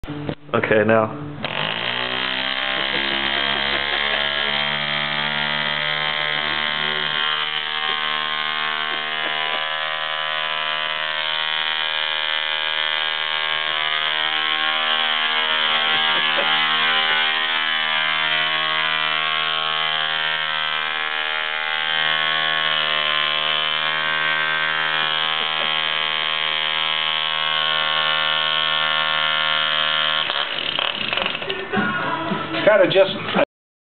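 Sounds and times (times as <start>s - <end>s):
model airplane engine buzzing: 1.4s - 31.6s.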